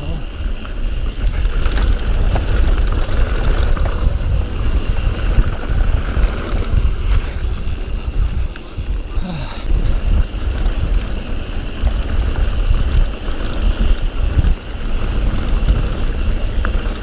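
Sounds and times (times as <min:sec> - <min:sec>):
bike rolling on dirt trail: 0:00.0 - 0:17.0
wind buffeting microphone: 0:00.0 - 0:17.0.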